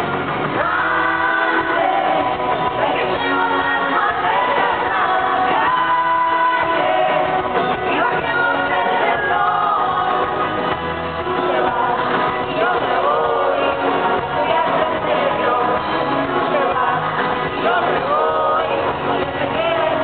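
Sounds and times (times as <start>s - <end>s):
live pop music with singing: 0.0s - 20.0s.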